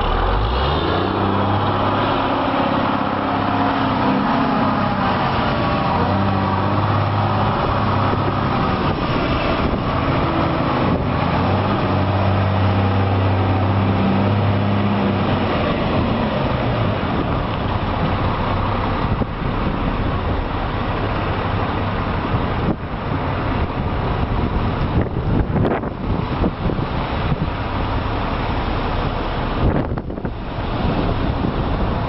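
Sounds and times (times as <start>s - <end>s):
road and wind noise: 0.0s - 32.0s
truck engine humming: 0.0s - 32.0s.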